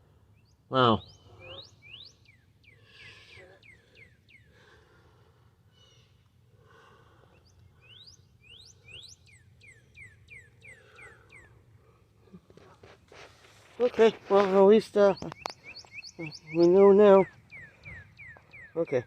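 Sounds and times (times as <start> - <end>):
faint bird song: 0.0 - 19.0.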